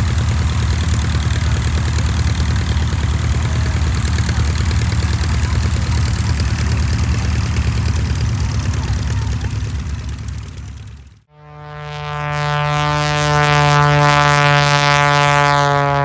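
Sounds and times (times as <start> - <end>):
propeller plane engine idling: 0.0 - 16.0.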